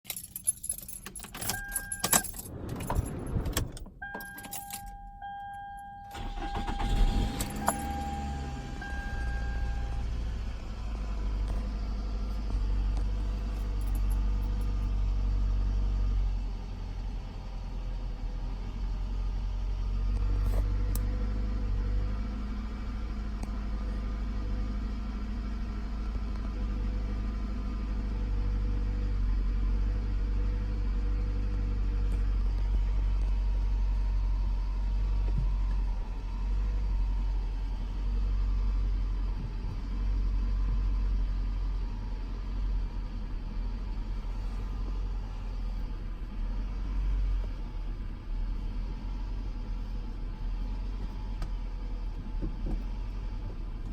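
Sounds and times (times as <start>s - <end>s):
car engine low rumble: 0.0s - 53.9s.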